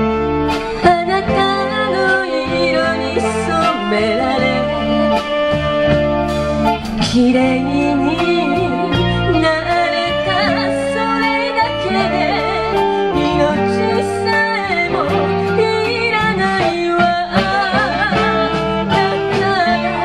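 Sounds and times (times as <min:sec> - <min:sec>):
live band with guitars and saxophones: 0:00.0 - 0:20.0
woman singing ballad with vibrato: 0:00.8 - 0:05.5, 0:07.0 - 0:20.0.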